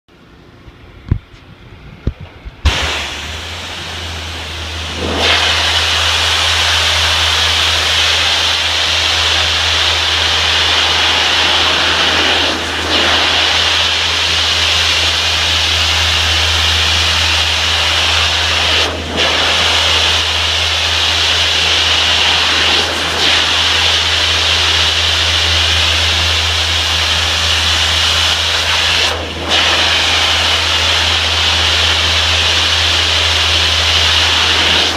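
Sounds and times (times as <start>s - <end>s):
motor hum: 0.1s - 34.9s
high-pressure water spray hissing: 2.6s - 34.9s.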